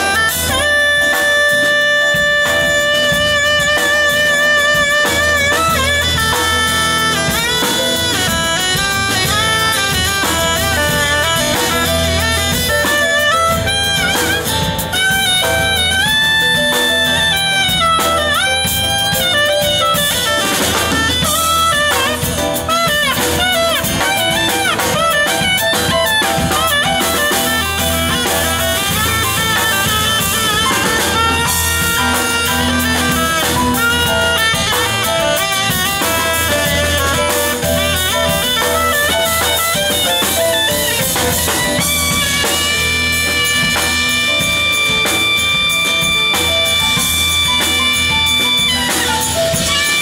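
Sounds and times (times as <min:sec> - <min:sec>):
drum kit: 0:00.0 - 0:50.0
electric guitar: 0:00.0 - 0:50.0
piano: 0:00.0 - 0:50.0
saxophone lead melody: 0:00.0 - 0:50.0.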